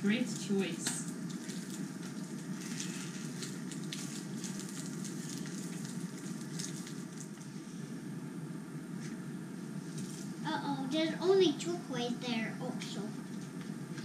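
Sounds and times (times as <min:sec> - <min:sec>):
low background hiss: 0:00.0 - 0:14.0.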